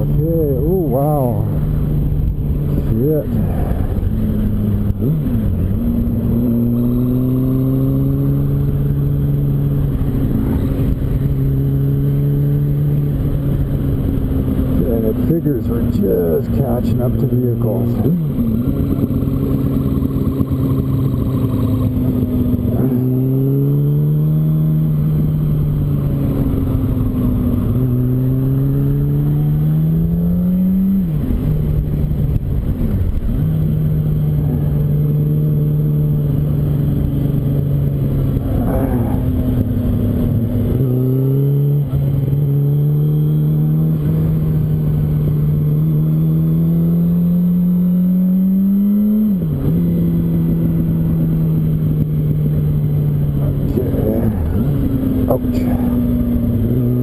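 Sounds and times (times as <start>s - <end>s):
motorcycle engine revving through gears: 0.0s - 57.0s
wind and road noise: 0.0s - 57.0s.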